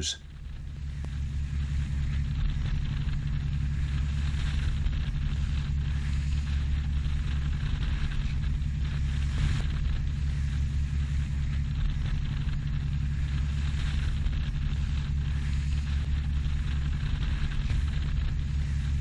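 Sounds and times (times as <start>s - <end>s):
diesel engine droning: 0.0s - 19.0s
hiss of water and wind: 0.0s - 19.0s.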